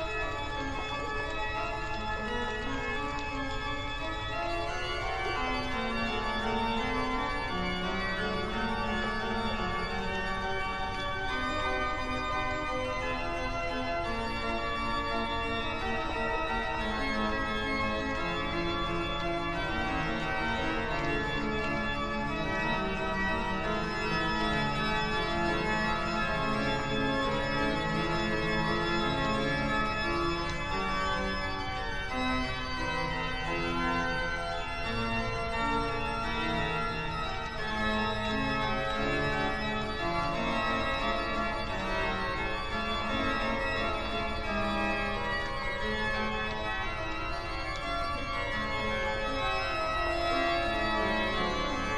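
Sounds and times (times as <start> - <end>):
organ music: 0.0 - 51.9.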